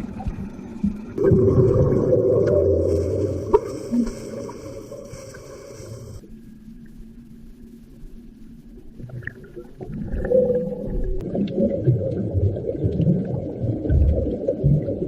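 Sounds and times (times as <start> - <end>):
underwater bubbles gurgling: 0.0 - 6.3, 8.8 - 15.0.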